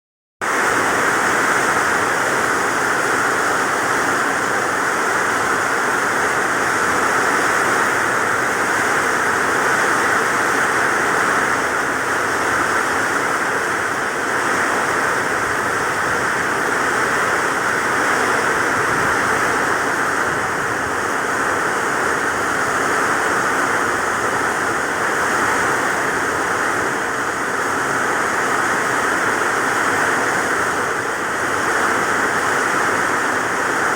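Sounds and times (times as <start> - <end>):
heavy rain: 0.4 - 33.9.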